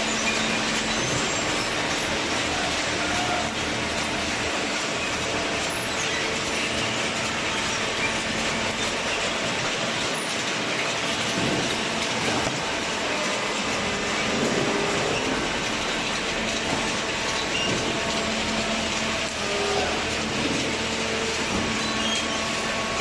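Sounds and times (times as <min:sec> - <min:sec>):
hydraulic baler mechanical din: 0:00.0 - 0:23.0.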